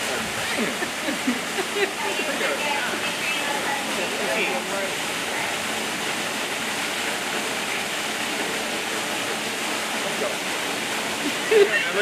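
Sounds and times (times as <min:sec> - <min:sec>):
rushing falling water: 0:00.0 - 0:12.0.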